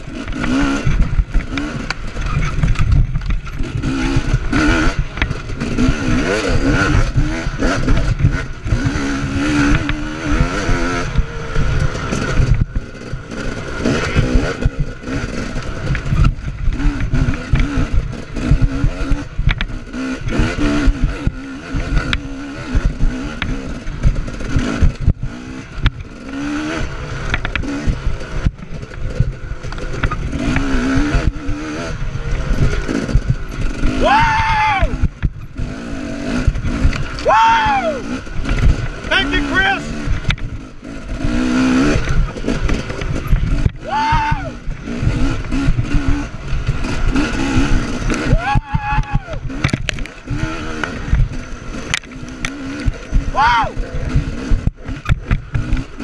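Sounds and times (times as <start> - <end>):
bike clattering over bumps: 0.0 - 26.4, 27.1 - 39.1, 40.0 - 53.4, 54.0 - 56.0
dirt bike engine revving: 0.0 - 56.0.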